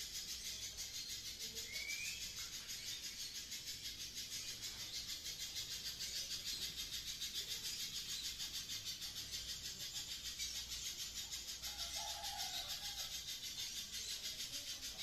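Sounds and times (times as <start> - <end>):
bird chattering trill: 0.0 - 15.0.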